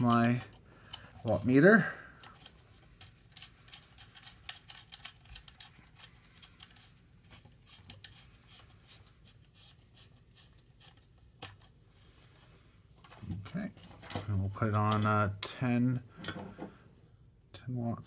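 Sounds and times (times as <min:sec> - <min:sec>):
coax connectors clicking and rubbing: 0:00.0 - 0:16.8.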